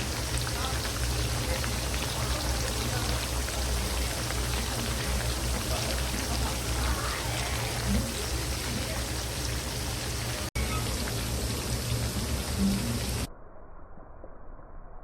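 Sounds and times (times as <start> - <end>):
fish sizzling in hot oil: 0.0 - 13.3.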